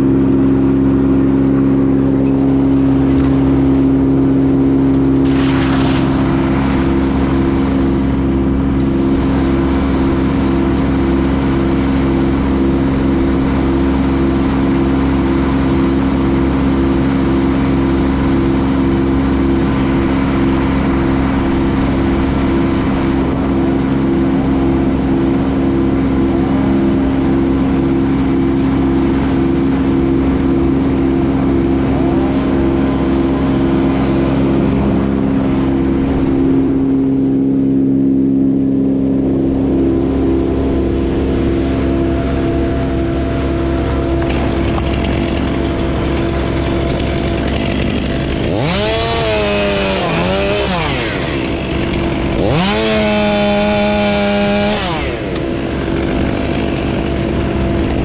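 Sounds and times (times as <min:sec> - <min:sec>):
heavy machinery engine running: 0:00.0 - 0:58.0.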